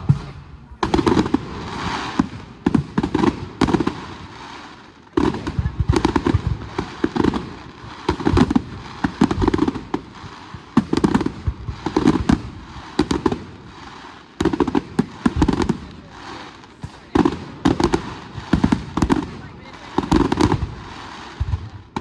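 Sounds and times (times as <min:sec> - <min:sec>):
fireworks booms and cracks: 0:00.0 - 0:22.0.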